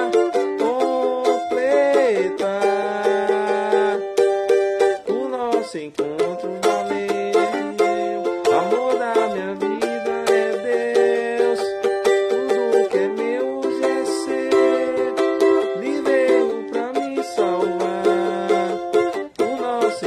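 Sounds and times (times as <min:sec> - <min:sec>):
small guitar strummed chords: 0:00.0 - 0:20.0.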